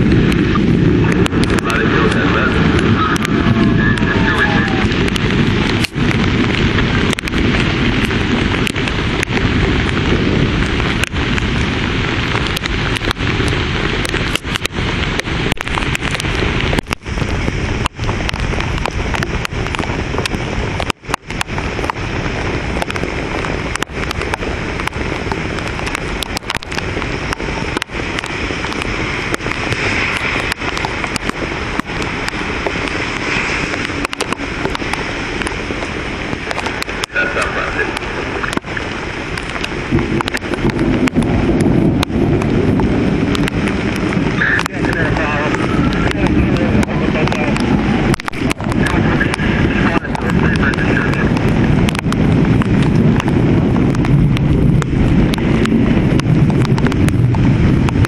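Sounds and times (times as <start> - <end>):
rain: 0.0 - 58.0
wind buffeting microphone: 0.0 - 58.0.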